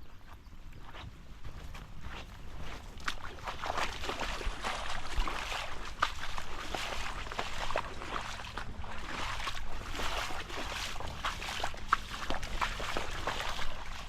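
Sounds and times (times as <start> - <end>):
water trickling and gurgling: 2.6 - 14.0.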